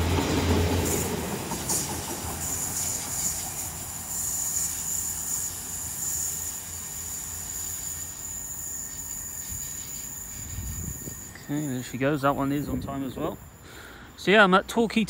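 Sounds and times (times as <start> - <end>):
train low rumble: 0.0 - 13.6.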